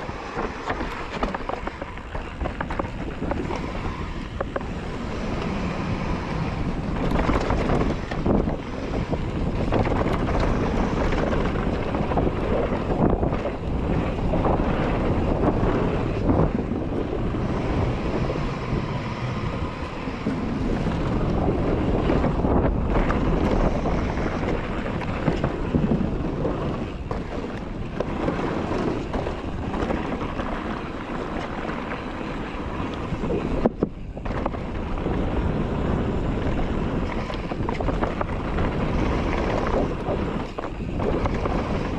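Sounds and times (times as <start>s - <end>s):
bike knocking and rattling: 0.0s - 41.9s
bike tyres rumbling on dirt: 0.0s - 41.9s
wind rushing over microphone: 0.0s - 41.9s.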